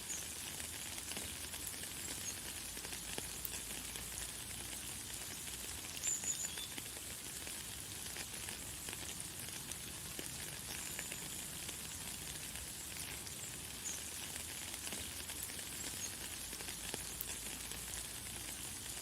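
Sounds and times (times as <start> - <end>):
light rain hiss: 0.0 - 19.0.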